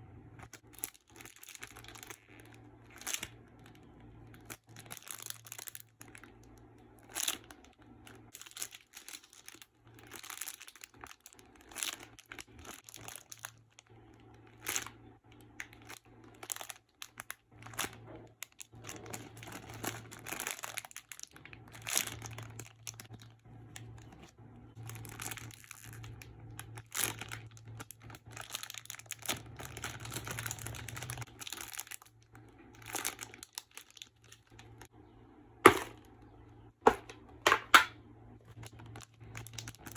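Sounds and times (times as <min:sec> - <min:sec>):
plastic packaging crinkling: 0:00.3 - 0:39.9.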